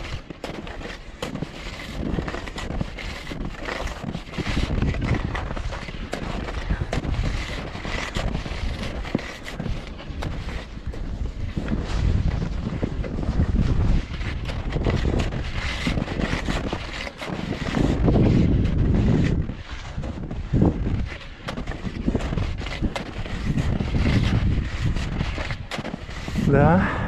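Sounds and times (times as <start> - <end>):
skis crunching over snow: 0.0 - 27.0
wind buffeting microphone: 0.8 - 27.0.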